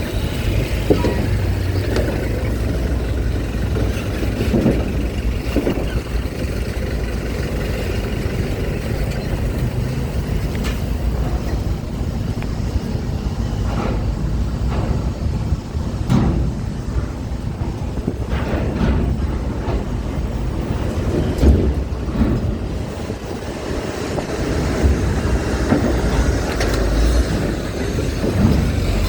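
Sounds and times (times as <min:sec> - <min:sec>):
vehicle engines rumbling: 0:00.0 - 0:29.0.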